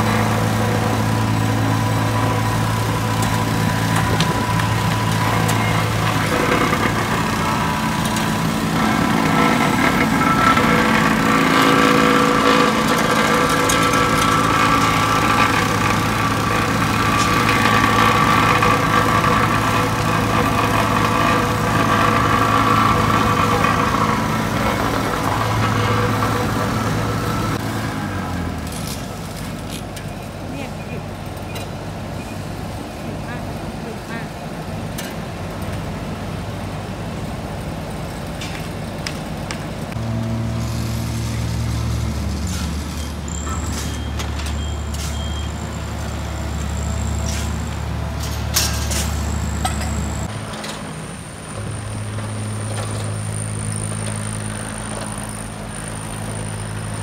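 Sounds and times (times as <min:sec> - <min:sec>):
paver engine running: 0:00.0 - 0:57.0
plate compactor engine: 0:00.0 - 0:57.0.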